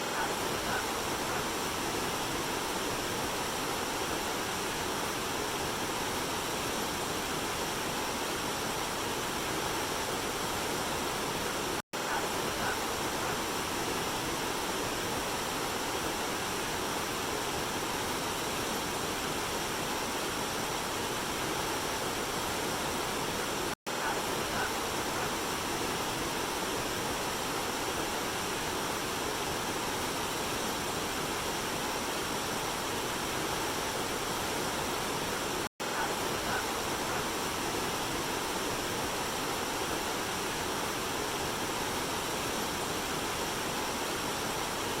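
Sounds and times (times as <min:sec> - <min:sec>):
waterfall and river rushing: 0:00.0 - 0:45.0.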